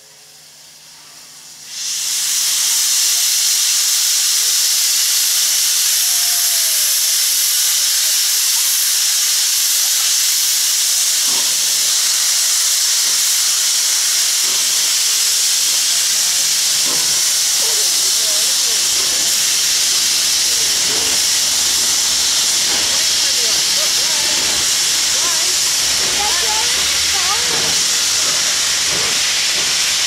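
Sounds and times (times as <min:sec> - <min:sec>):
steam locomotive venting steam: 0:00.0 - 0:30.0.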